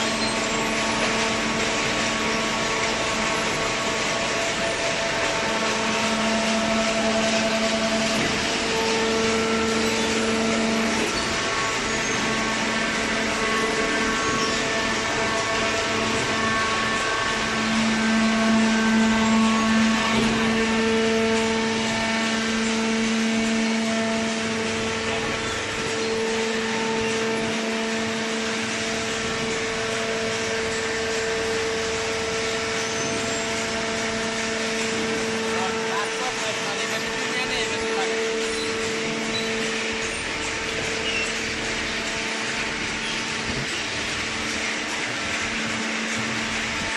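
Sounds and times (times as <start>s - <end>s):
baler machine drone: 0.0s - 46.9s
whining machine tones: 0.0s - 46.9s.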